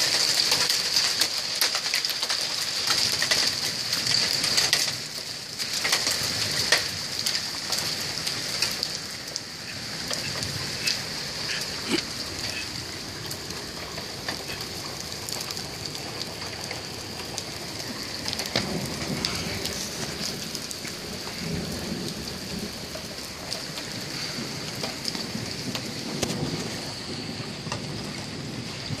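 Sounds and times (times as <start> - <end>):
hailstones ticking: 0.0 - 29.0
rain hissing on concrete: 0.0 - 29.0.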